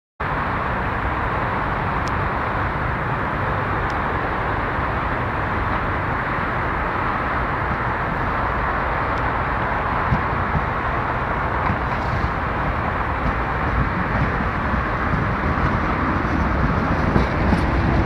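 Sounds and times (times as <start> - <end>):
tram wheels rolling on rail: 0.2 - 18.0.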